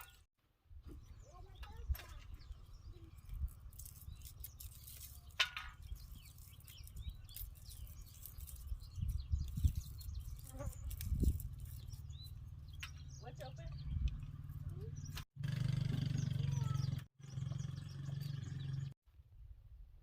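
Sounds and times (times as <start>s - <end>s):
bird chirps: 0.0s - 15.2s, 15.8s - 19.0s.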